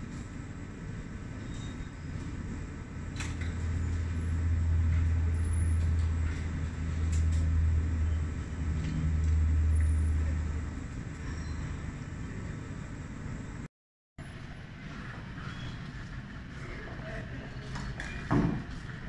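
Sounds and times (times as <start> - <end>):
low engine rumble: 0.0 - 17.8.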